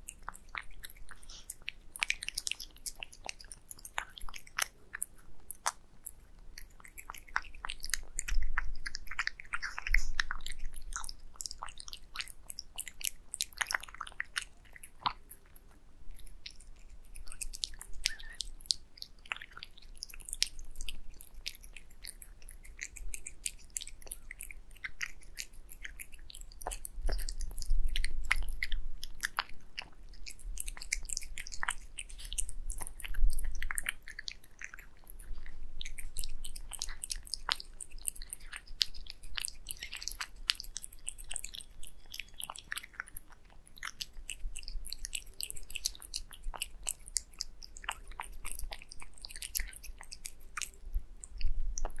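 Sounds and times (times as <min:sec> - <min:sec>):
cat chewing and licking: 0:00.0 - 0:52.0.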